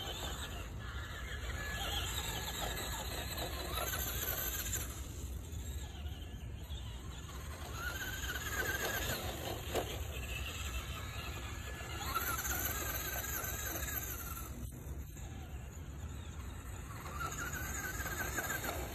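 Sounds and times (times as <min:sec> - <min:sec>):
electric motor and gears whining: 0:00.0 - 0:18.9.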